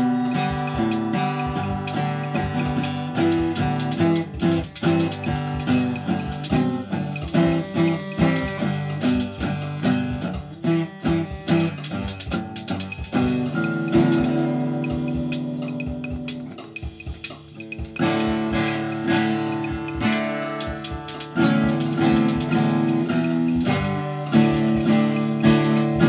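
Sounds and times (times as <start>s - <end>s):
guitar chord ringing: 0.0s - 26.0s
guitar plucked notes: 0.0s - 26.0s.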